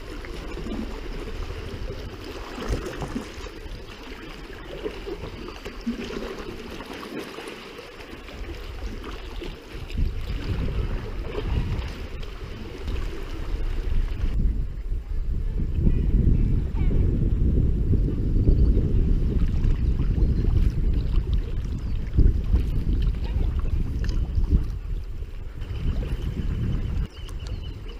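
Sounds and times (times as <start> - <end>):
wind rumble on microphone: 0.0 - 6.7, 8.1 - 27.9
water trickling and lapping: 0.0 - 15.2, 18.0 - 27.9.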